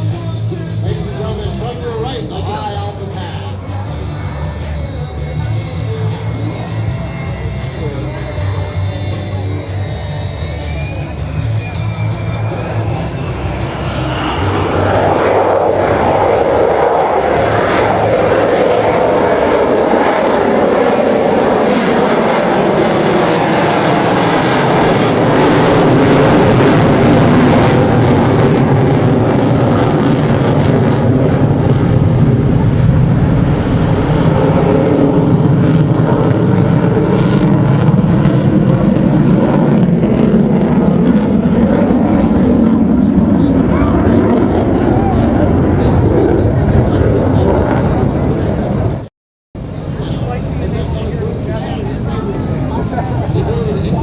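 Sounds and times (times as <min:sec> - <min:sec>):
jet engine roaring: 0:00.0 - 0:54.0.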